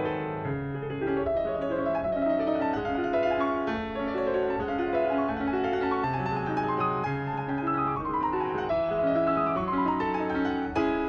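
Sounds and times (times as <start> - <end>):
solo piano music: 0.0 - 11.0.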